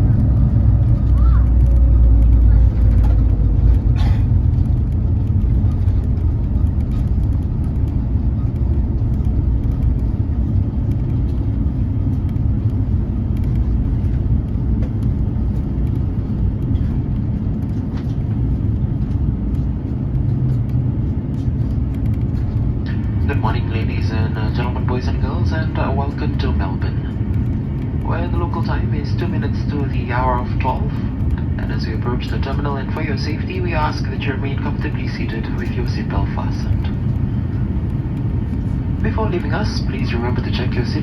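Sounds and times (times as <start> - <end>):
low rumble of wheels and engines: 0.0 - 41.0.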